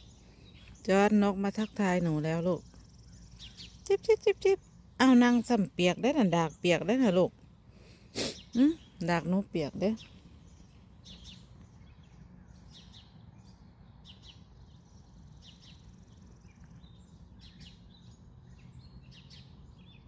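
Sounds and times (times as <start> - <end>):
low background hum: 0.0 - 20.0
songbirds chirping: 0.0 - 20.0.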